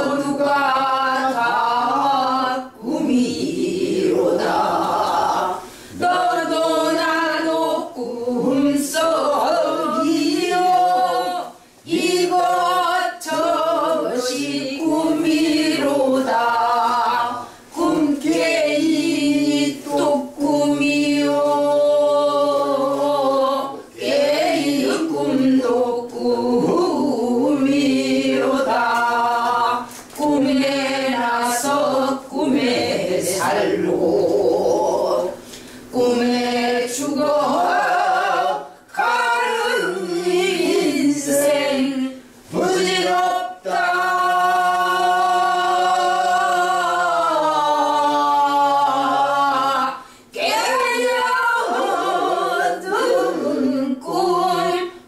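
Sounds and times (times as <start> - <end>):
group singing folk song: 0.0 - 55.0.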